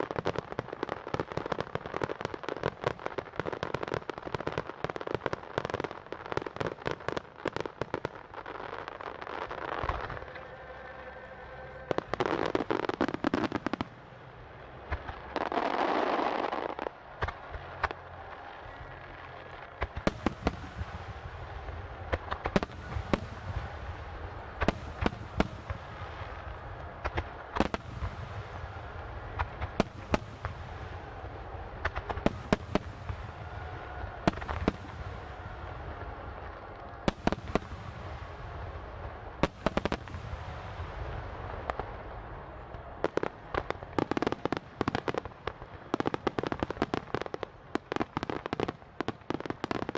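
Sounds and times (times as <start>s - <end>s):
continuous low rumble: 0.0s - 49.9s
fireworks bursting with sharp bangs: 0.0s - 49.9s.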